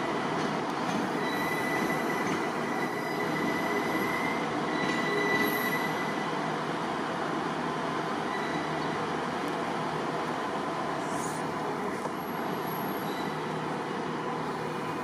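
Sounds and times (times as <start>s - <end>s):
diesel train running: 0.0s - 15.0s.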